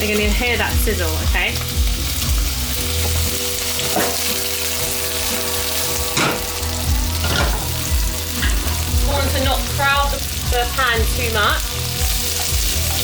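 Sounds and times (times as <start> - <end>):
prawns sizzling in hot oil: 0.0 - 13.0.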